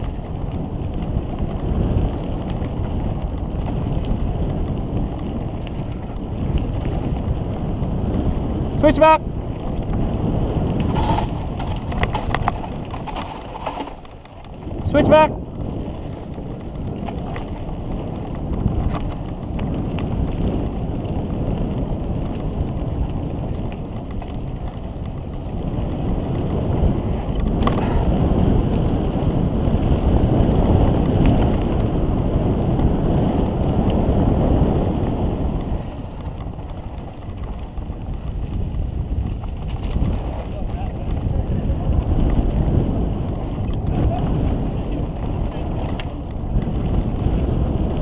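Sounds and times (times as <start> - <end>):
bike tyres rolling on dirt: 0.0 - 48.0
wind buffeting microphone: 0.0 - 48.0.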